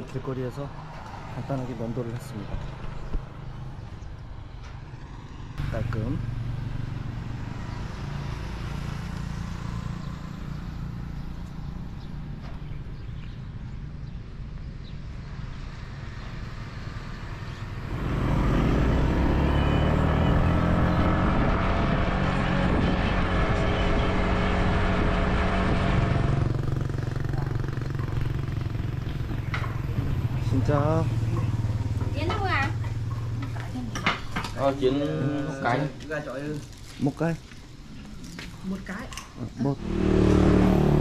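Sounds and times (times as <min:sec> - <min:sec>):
street traffic engines humming: 0:00.0 - 0:41.0.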